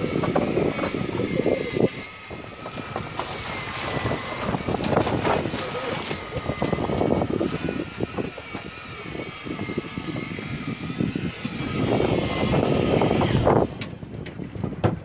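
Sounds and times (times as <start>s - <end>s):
water noise: 0.0s - 14.8s
boat engine drone: 0.0s - 15.0s
rushing wind: 0.0s - 15.0s.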